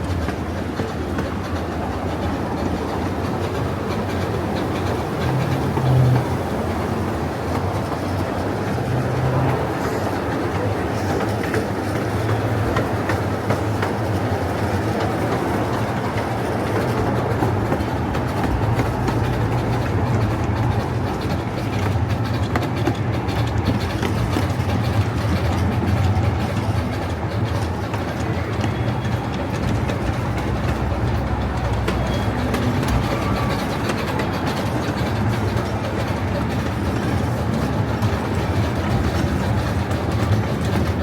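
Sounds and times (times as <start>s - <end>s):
clicks over rail joints: 0.0s - 41.0s
train wheels rumbling on rail: 0.0s - 41.0s.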